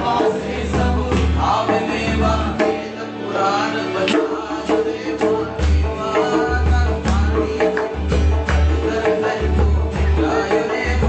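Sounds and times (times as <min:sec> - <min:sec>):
conga drum beats: 0:00.0 - 0:03.2, 0:04.0 - 0:11.0
group singing: 0:00.0 - 0:11.0
guitars: 0:00.0 - 0:11.0
keyboard: 0:00.0 - 0:11.0.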